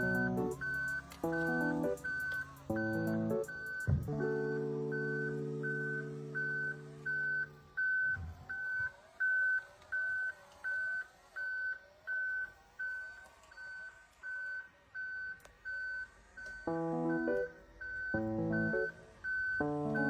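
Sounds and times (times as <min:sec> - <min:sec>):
faint wavering whine: 0:00.0 - 0:20.0
short electronic beeps: 0:00.0 - 0:20.0.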